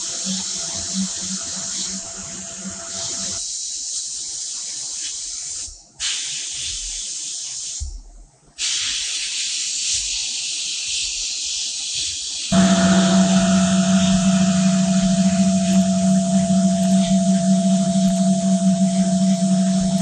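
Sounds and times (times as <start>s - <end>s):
sandblasting gun hissing: 0.0s - 7.9s, 8.6s - 20.0s.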